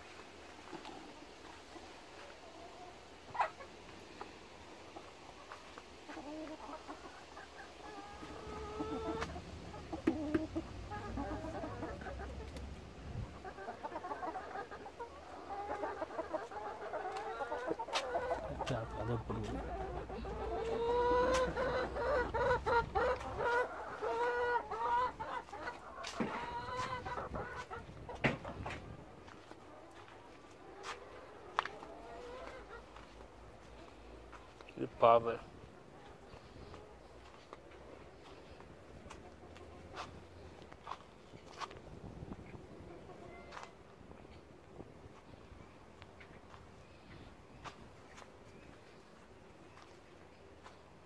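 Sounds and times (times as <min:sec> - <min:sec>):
hens clucking: 0:00.0 - 0:51.0.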